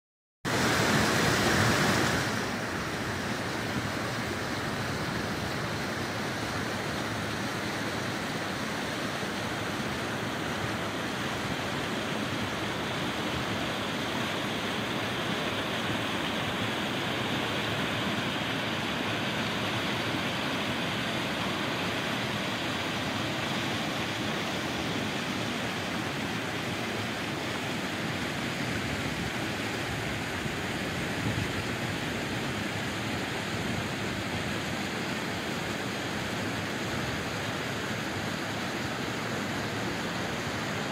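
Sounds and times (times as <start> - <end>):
creek rushing over boulders: 0.5 - 40.9.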